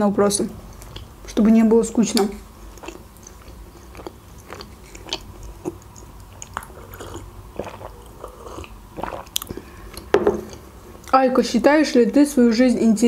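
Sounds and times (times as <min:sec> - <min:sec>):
chewing with mouth clicks: 0:00.7 - 0:11.2.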